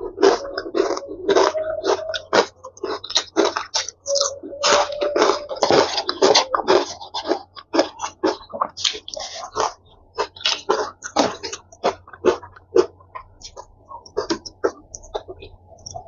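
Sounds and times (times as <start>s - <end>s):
noodle slurping and chewing: 0.0s - 16.0s.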